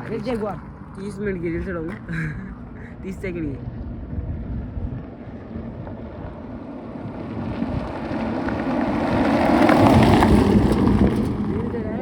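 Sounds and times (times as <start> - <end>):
sports car engine rumbling: 0.0 - 12.0.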